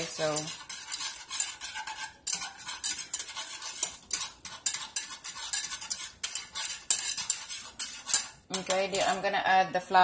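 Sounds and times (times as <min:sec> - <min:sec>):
utensil scraping saucepan: 0:00.0 - 0:09.4.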